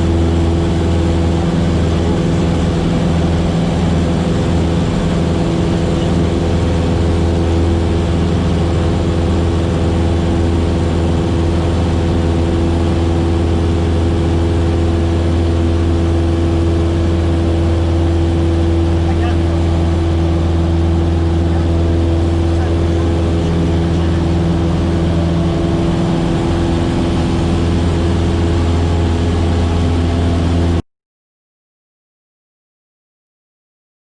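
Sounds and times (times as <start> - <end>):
propeller plane engine droning: 0.0 - 30.8.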